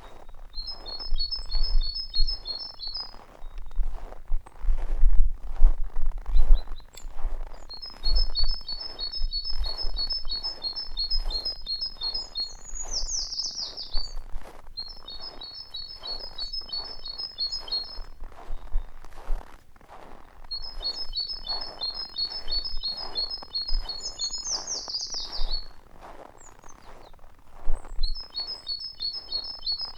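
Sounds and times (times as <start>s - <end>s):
songbird singing: 0.0s - 4.7s, 6.2s - 19.4s, 20.2s - 29.9s
footsteps crunching in snow: 0.0s - 29.9s.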